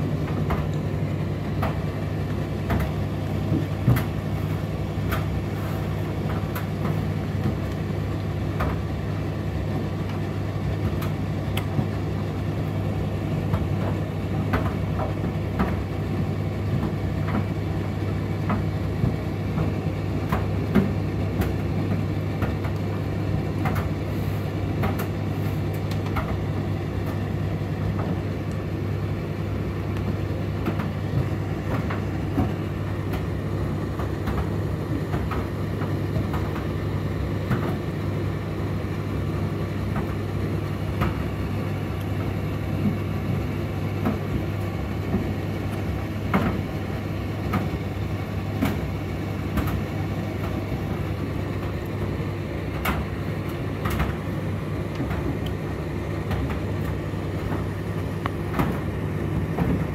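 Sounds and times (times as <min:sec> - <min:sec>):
tumble dryer humming: 0:00.0 - 0:59.9.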